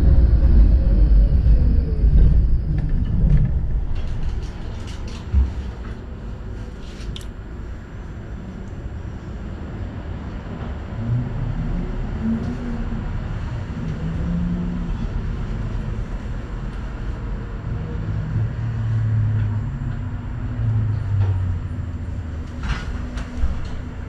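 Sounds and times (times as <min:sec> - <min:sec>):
tram motor whine: 0:00.0 - 0:24.0
tram rumbling on rails: 0:00.0 - 0:24.0.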